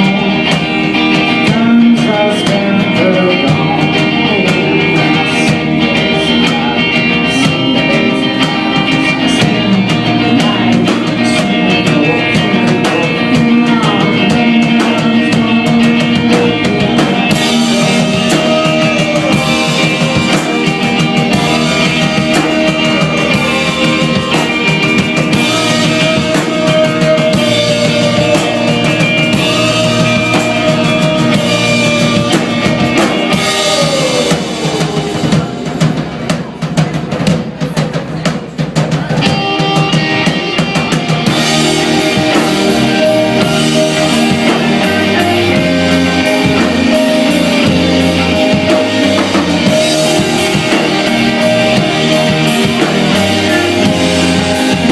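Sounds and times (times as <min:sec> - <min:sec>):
drum kit: 0:00.0 - 0:54.9
rock band playing live: 0:00.0 - 0:54.9.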